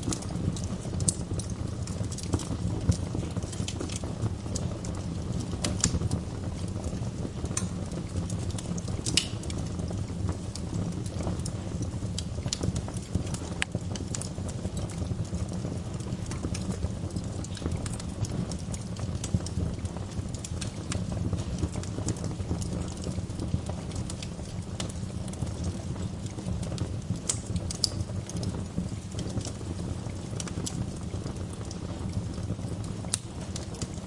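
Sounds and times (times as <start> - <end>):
burning logs crackling and popping: 0.0 - 34.0
low rumble of flames: 0.0 - 34.0.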